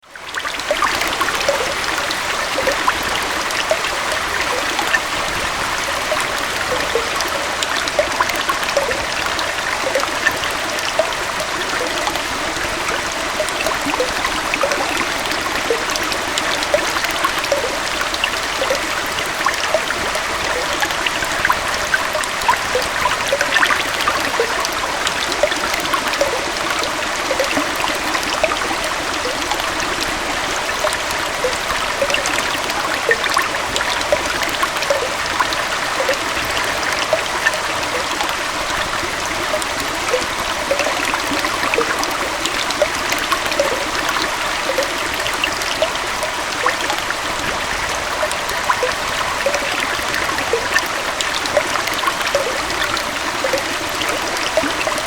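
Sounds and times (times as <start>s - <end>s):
water splashing over rocks: 0.0s - 55.0s.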